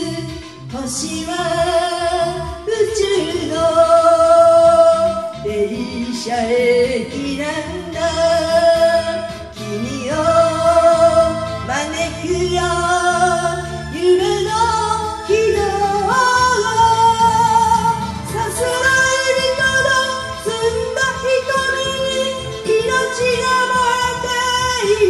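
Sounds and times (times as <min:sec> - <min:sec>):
karaoke backing track: 0:00.0 - 0:25.0
woman singing: 0:00.0 - 0:25.0.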